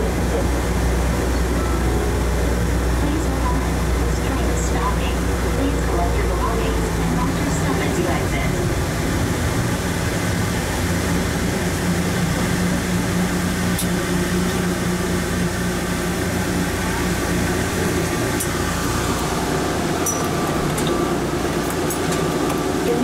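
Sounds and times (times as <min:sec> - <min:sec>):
low hum from train car: 0:00.0 - 0:23.0
train rumbling through tunnel: 0:00.0 - 0:23.0.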